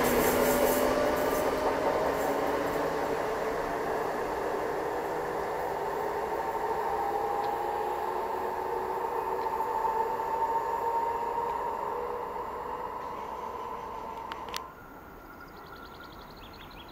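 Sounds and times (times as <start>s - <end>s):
faint train whine: 0.0s - 16.9s
train rail rumble: 0.0s - 16.9s.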